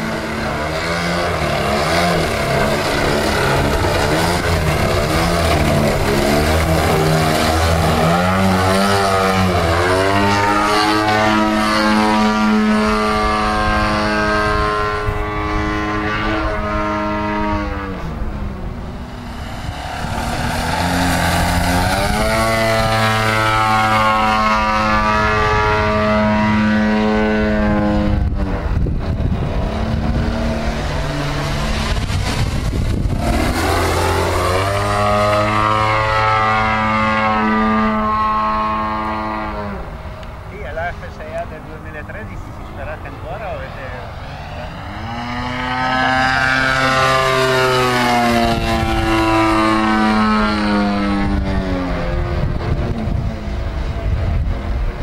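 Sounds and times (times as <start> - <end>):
model plane engine and propeller: 0.0 - 55.0.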